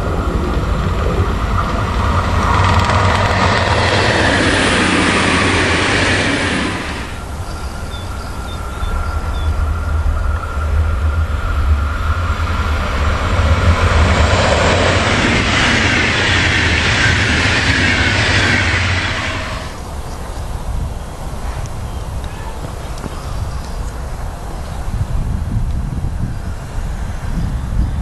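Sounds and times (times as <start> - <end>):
train passing: 0.0 - 28.0
train wheels rushing on rail: 0.0 - 28.0.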